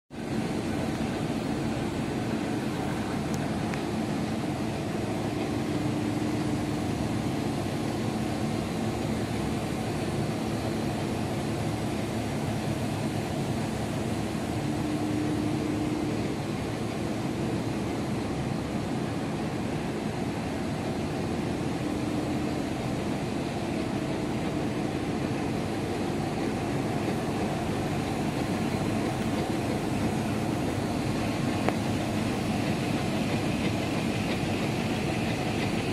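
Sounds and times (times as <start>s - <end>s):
printing machine whirring: 0.2s - 35.9s.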